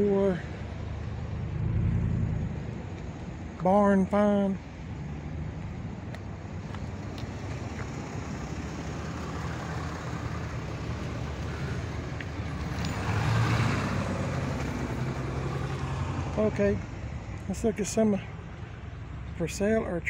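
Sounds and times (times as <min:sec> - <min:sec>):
vehicle passing: 0:00.0 - 0:03.5, 0:04.8 - 0:19.4
road traffic engine rumble: 0:00.0 - 0:20.0.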